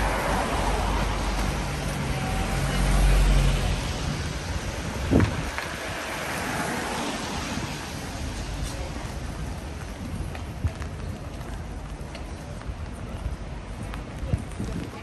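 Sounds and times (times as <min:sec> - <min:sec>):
traffic on wet road: 0:00.0 - 0:15.0.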